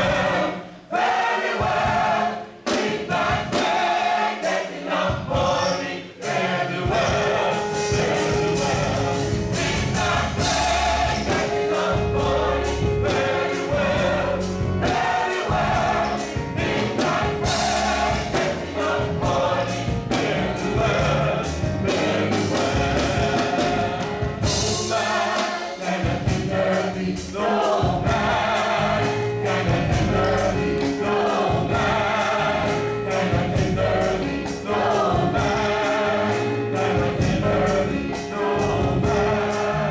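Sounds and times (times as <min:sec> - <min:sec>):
gospel choir singing: 0:00.0 - 0:39.9
live band bass and drums: 0:06.8 - 0:39.9.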